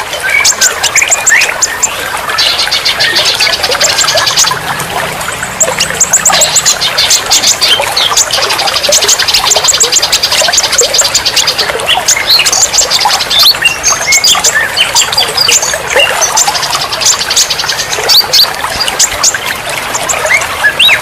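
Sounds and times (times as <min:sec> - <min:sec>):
songbirds chirping and whistling: 0:00.0 - 0:21.0
trickle of running water: 0:00.0 - 0:21.0.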